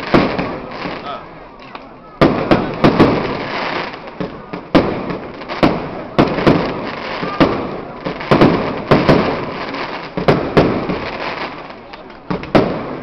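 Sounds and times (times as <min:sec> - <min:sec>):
fireworks bangs with echoing rumble: 0:00.0 - 0:13.0.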